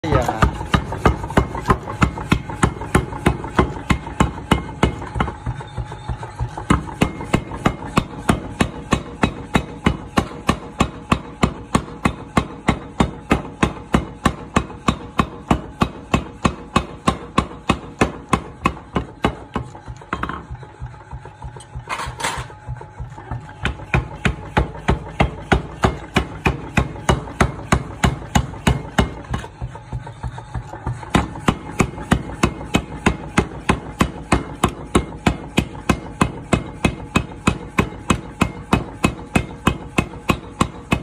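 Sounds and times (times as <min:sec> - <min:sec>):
faint machine hum: 0:00.0 - 0:41.0
power hammer pounding iron: 0:00.0 - 0:41.0.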